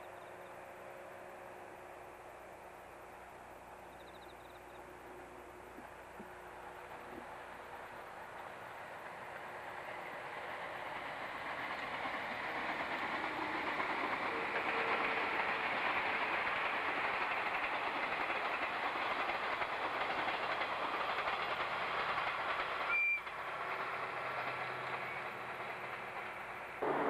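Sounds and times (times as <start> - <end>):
train wheels on rail: 0.0 - 27.0.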